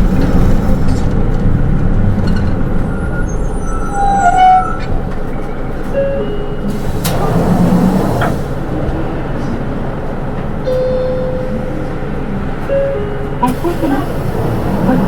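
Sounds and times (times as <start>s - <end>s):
bus diesel engine and road rumble: 0.0s - 15.0s.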